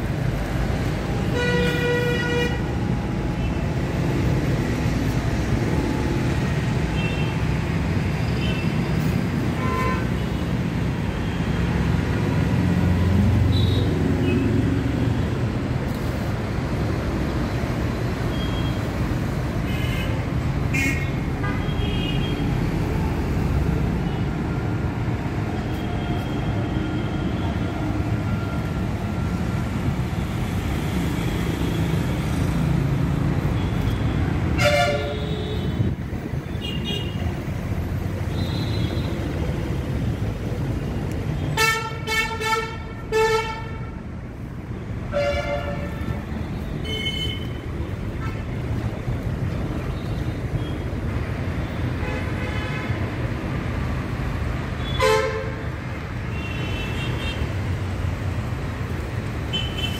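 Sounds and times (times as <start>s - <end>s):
road traffic: 0.0s - 59.9s.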